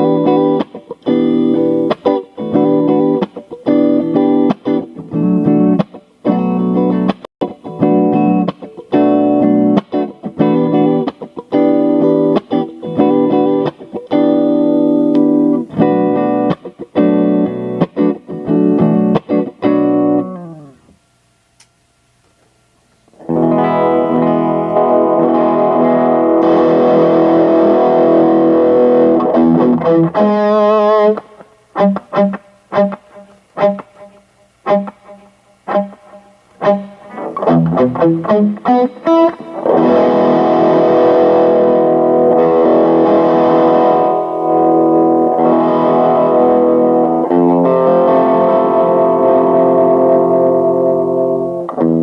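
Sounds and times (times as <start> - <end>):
distorted electric guitar chords: 0.0 - 21.0, 23.1 - 52.0.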